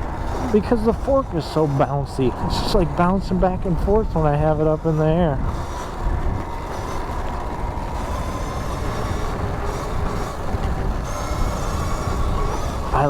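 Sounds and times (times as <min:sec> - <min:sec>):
electric motor whine: 0:00.0 - 0:13.0
wind rushing on microphone: 0:00.0 - 0:13.0.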